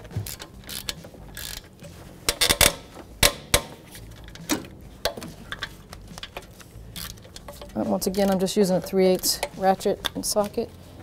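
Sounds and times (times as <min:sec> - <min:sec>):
hand ratchet clicking: 0:00.0 - 0:10.6
metal tools clanking: 0:00.1 - 0:10.6.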